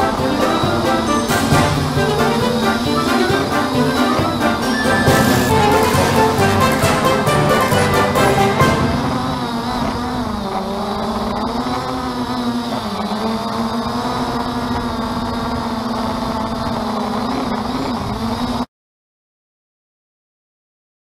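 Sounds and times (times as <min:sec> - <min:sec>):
drone propellers whirring: 0:00.0 - 0:18.7.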